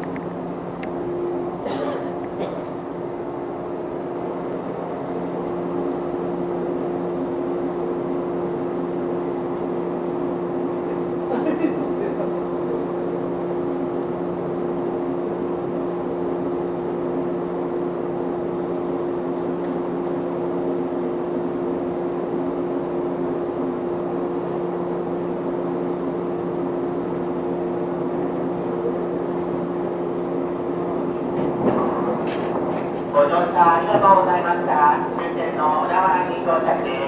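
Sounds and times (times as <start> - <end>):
electric train humming: 0.0 - 37.0.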